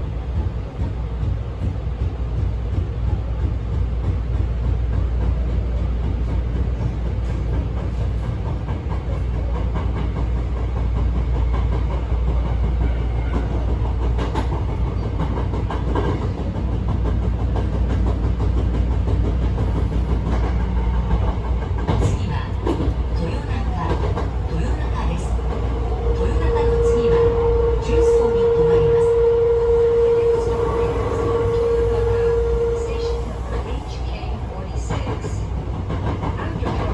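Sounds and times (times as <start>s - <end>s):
electric train rumbling: 0.0s - 36.9s.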